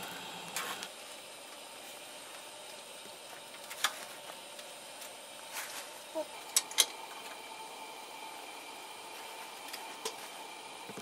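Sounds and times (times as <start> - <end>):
stew simmering hiss: 0.0 - 11.0.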